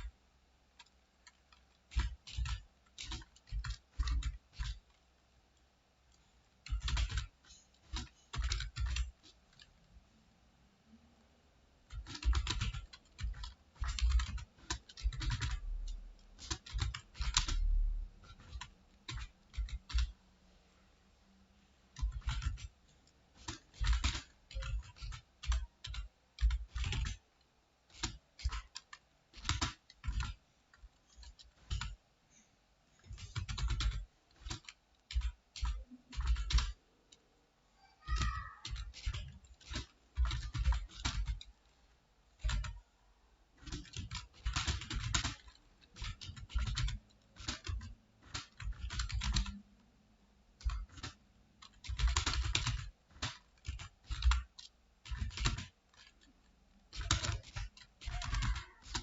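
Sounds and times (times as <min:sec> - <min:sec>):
computer keyboard typing: 0:00.0 - 0:10.0, 0:11.8 - 0:20.5, 0:21.8 - 0:32.0, 0:33.0 - 0:42.9, 0:43.6 - 0:59.0.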